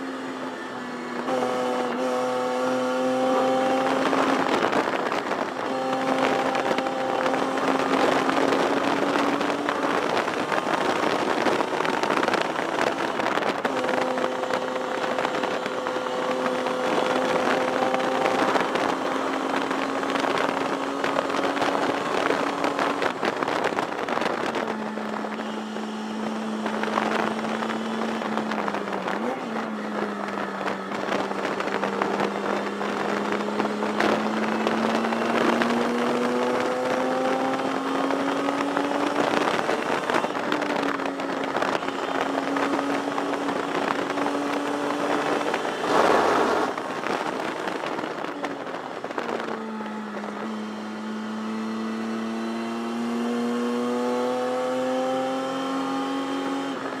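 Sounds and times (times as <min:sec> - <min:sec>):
race engine running hard: 0:00.0 - 0:57.0
wind and road noise: 0:00.0 - 0:57.0.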